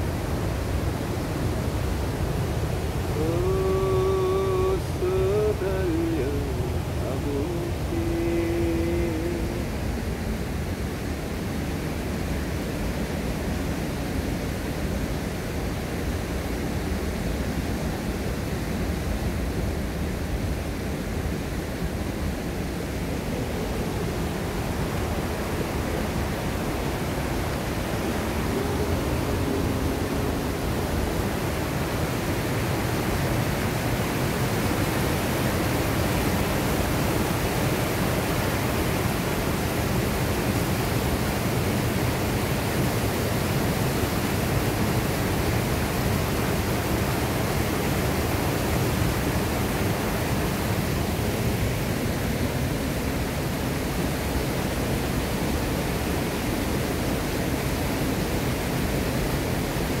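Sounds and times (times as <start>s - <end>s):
stream rushing over waterfall: 0.0s - 60.0s.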